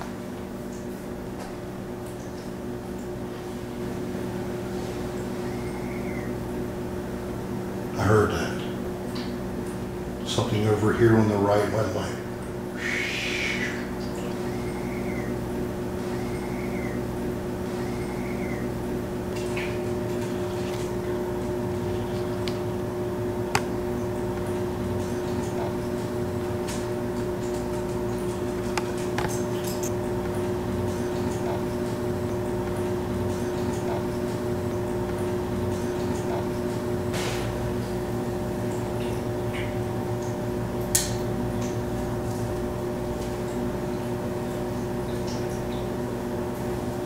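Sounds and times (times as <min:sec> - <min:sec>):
low room tone hum: 0:00.0 - 0:47.0.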